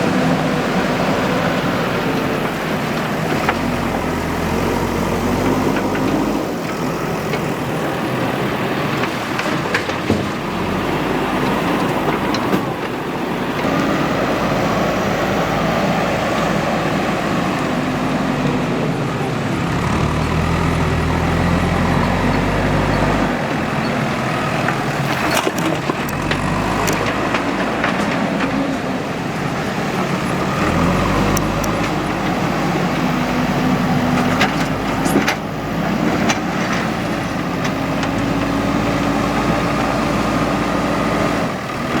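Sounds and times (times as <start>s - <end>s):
backhoe diesel engine running: 0.0s - 42.0s.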